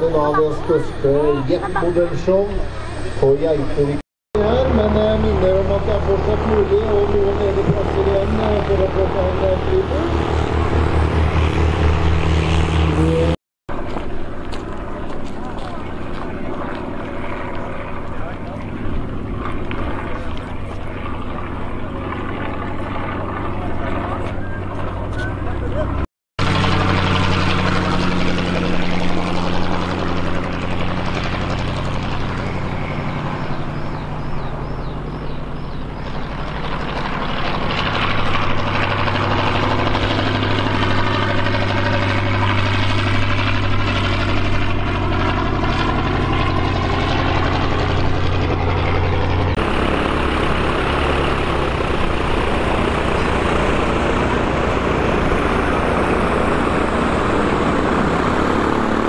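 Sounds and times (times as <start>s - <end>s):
light aircraft engine humming: 0.0s - 59.0s.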